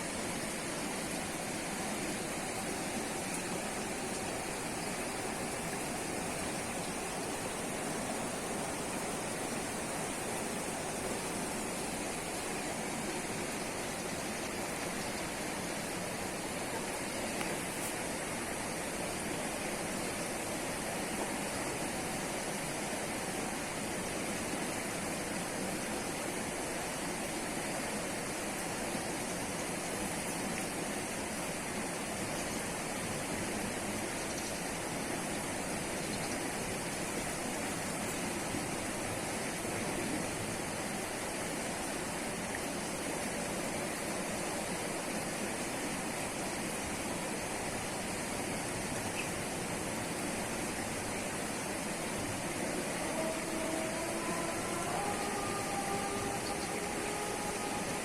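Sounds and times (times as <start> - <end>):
flowing river water: 0.0 - 58.0.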